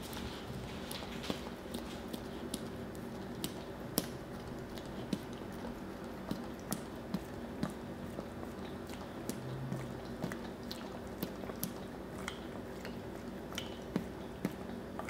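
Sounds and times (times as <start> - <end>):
dog licking and smacking: 0.0 - 15.0.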